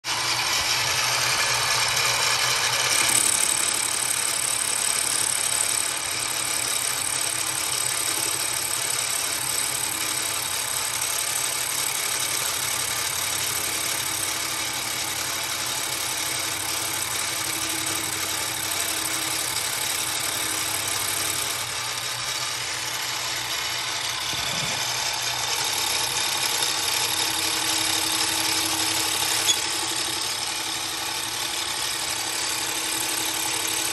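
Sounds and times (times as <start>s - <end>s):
drill press motor whir: 0.0s - 33.9s.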